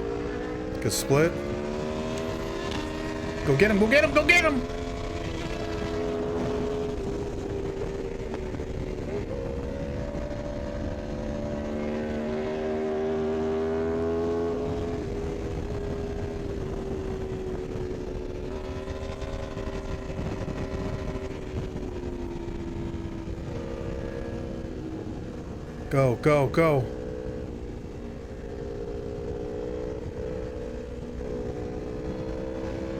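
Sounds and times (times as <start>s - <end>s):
motorcycle engine at high revs: 0.0s - 32.9s
wind and road noise: 0.0s - 32.9s.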